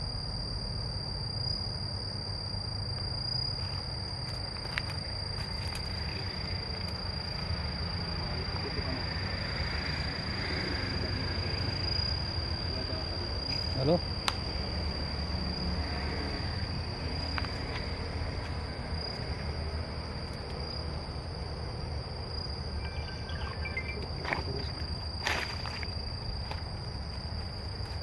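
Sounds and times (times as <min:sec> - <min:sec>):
insect high-pitched calling: 0:00.0 - 0:28.0.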